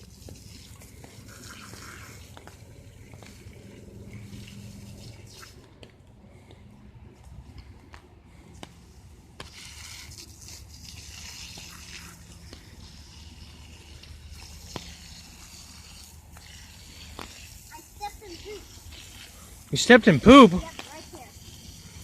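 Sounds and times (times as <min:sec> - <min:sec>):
garden hose spraying water: 0:00.0 - 0:06.4, 0:07.5 - 0:22.0.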